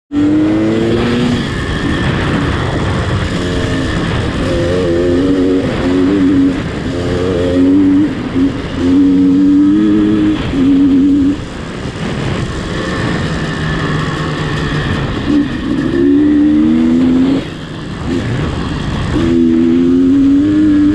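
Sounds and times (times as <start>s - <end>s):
vehicle engine revving: 0.1s - 20.9s
low rumble: 0.2s - 20.9s.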